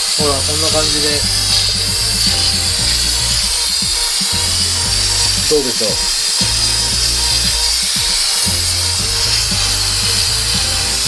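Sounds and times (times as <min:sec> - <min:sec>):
low buzz from unit: 0:00.0 - 0:11.0
steam cleaner hissing: 0:00.0 - 0:11.0.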